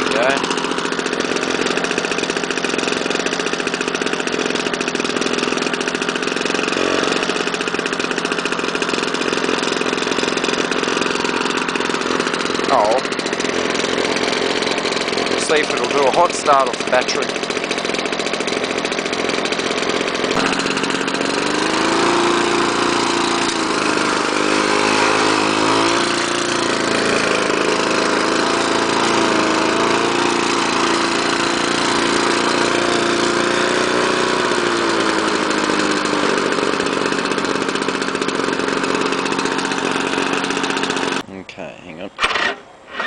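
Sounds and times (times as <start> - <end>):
lawnmower engine running: 0.0 - 43.0.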